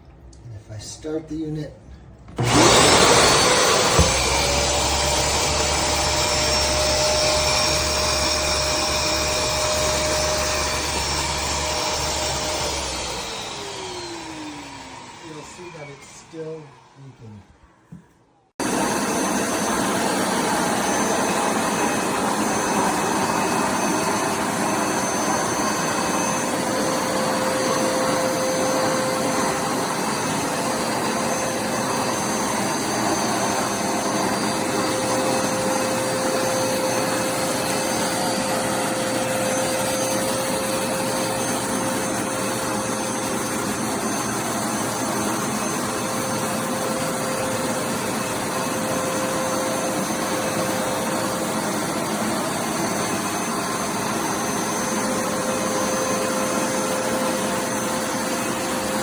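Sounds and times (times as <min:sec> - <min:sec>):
carpet cleaner motor whirring: 0:02.3 - 0:59.0.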